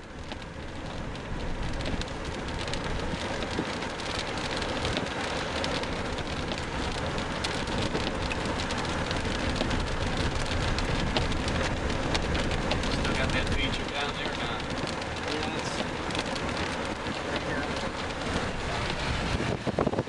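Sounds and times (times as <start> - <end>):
rain on car windshield and roof: 0.0 - 20.0
road noise: 0.0 - 20.0.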